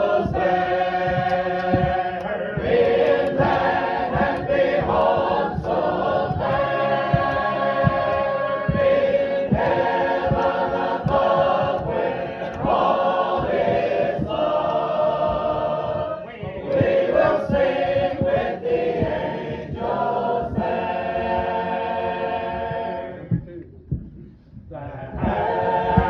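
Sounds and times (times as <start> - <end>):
congregation singing a hymn: 0.0 - 23.5, 24.8 - 26.0.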